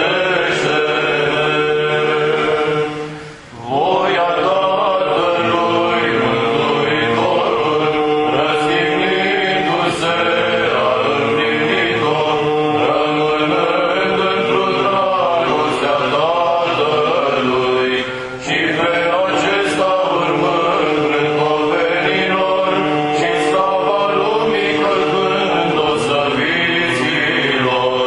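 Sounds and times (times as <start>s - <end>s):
held drone note: 0.0s - 27.8s
voices chanting melody: 0.0s - 28.0s.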